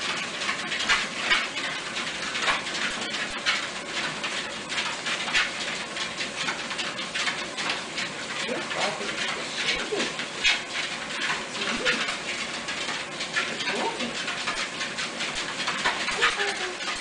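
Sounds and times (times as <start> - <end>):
paws pattering on treadmill: 0.0 - 17.0.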